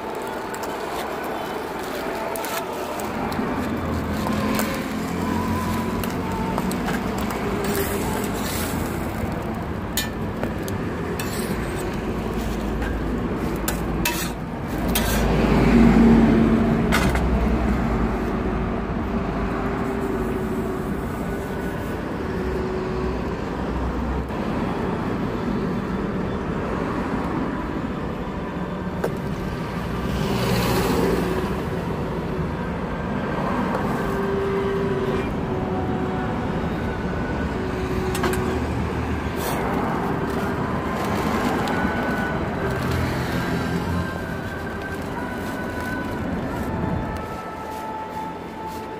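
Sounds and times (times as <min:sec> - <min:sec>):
street traffic: 0:00.0 - 0:48.9.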